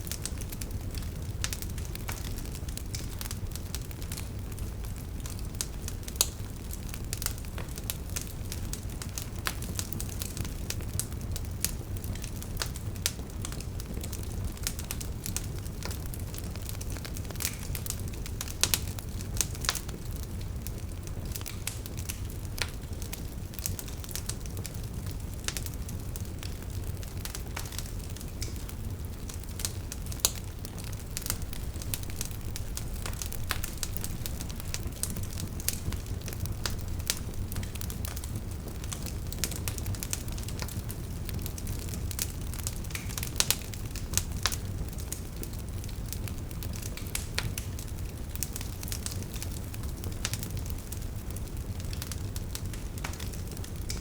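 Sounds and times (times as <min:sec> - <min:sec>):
crackles and pops from logs: 0:00.0 - 0:54.0
wood fire burning: 0:00.0 - 0:54.0.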